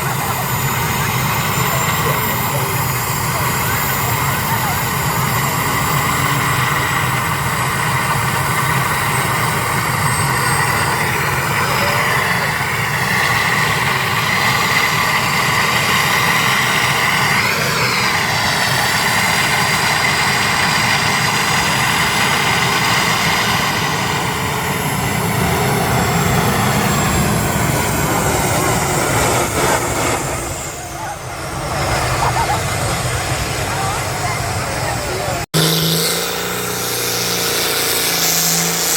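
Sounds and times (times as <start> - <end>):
tractor engine running loud: 0.0 - 38.9.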